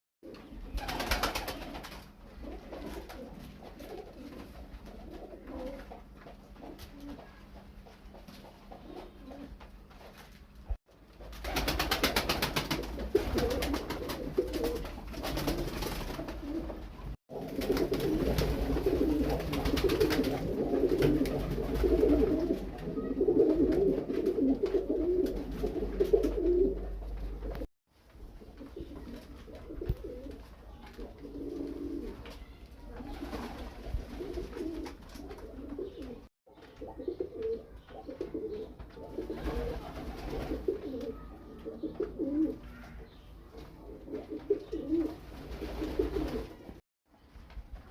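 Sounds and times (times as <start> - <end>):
pigeons cooing: 0.2 - 6.0, 8.7 - 9.6, 11.5 - 27.7, 28.4 - 30.4, 31.0 - 32.2, 33.0 - 46.7.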